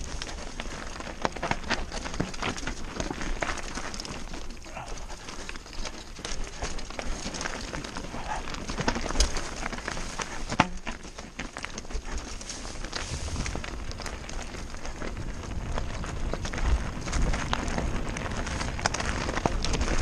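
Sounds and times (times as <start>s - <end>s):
bike rattling over bumps: 0.0s - 20.0s
tyres crunching over stones: 0.0s - 20.0s.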